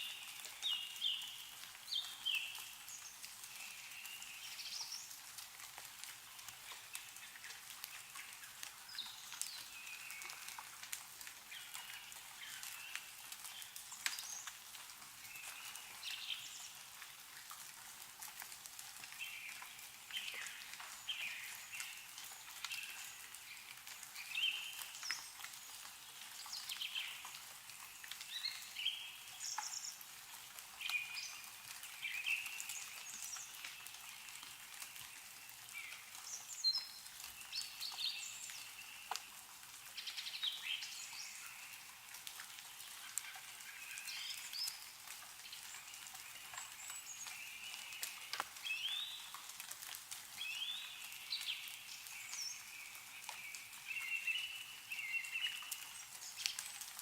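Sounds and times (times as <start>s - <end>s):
small birds chirping: 0.0s - 17.4s, 18.2s - 57.0s
meltwater dripping: 0.0s - 57.0s
snow falling from trees: 0.0s - 57.0s.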